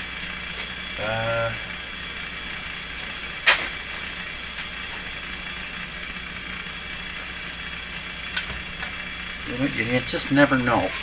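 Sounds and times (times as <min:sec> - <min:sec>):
radio hiss and hum: 0:00.0 - 0:11.0.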